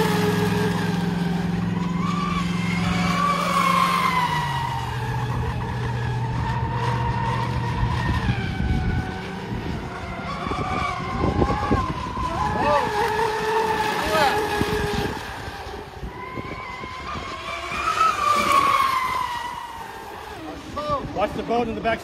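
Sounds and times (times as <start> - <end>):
high electric motor whine: 0.0 - 22.0.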